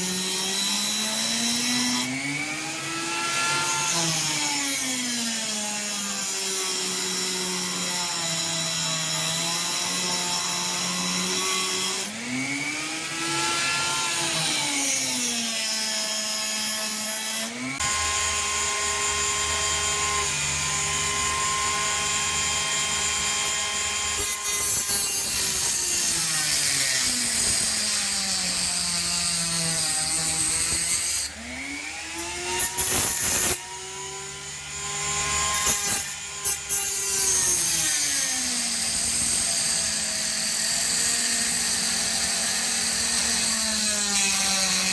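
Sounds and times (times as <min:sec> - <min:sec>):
power tool motor whining: 0:00.0 - 0:44.9.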